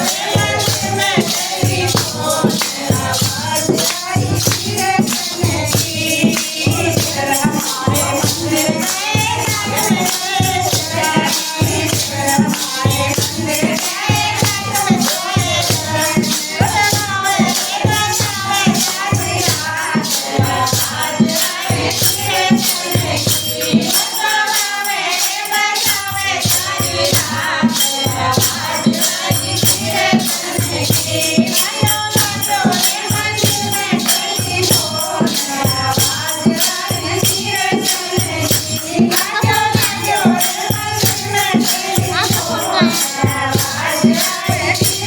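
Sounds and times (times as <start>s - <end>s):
drum beat: 0.0s - 45.0s
person singing devotional song: 0.0s - 45.0s
shaker-like rattling percussion: 0.0s - 45.0s.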